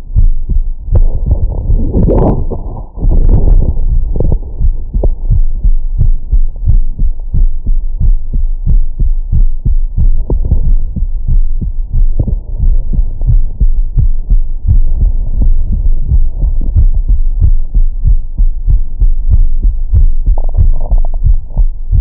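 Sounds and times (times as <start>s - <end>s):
heartbeat through stethoscope: 0.0s - 22.0s.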